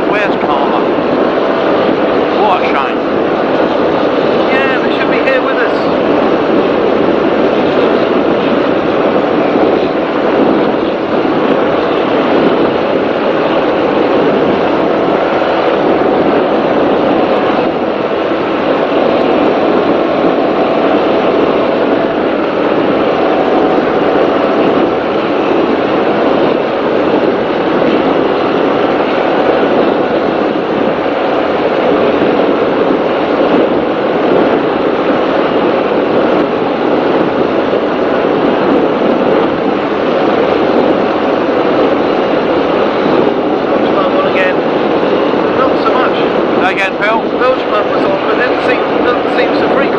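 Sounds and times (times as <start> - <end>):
powerboat engine drone: 0.0 - 49.9
water rushing: 0.0 - 49.9.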